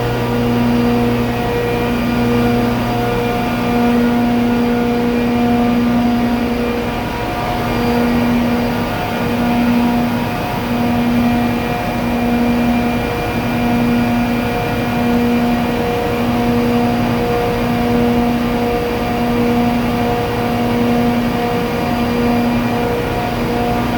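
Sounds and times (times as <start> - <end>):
compressor droning hum: 0.0 - 23.9.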